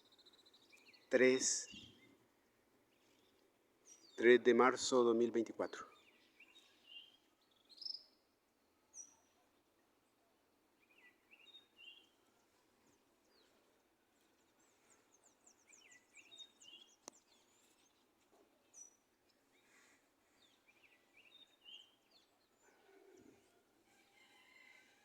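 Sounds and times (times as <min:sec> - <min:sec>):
faint songbirds chirping: 0:00.0 - 0:25.0.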